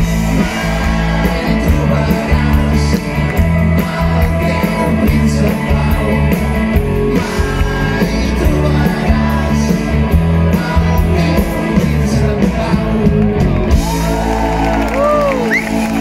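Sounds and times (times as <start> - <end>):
lead vocals: 0.0 - 16.0
live rock band playing: 0.0 - 16.0.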